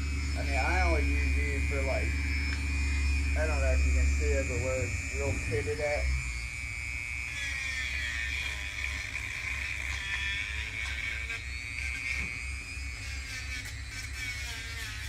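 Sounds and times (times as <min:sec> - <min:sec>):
rotary tool grinding metal: 0:00.0 - 0:15.0.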